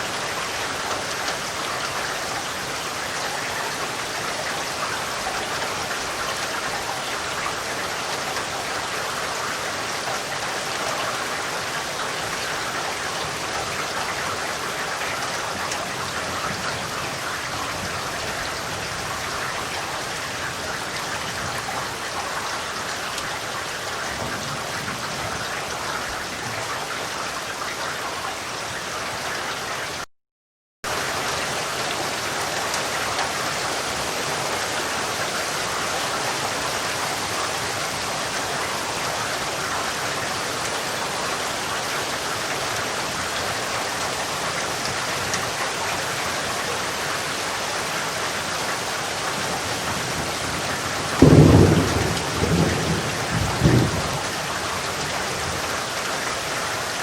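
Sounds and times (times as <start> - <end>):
steady rain falling: 0.0 - 30.1, 30.9 - 57.0.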